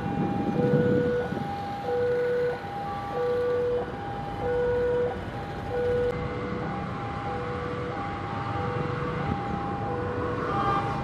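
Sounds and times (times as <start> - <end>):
two-tone warning alarm: 0.0 - 11.0.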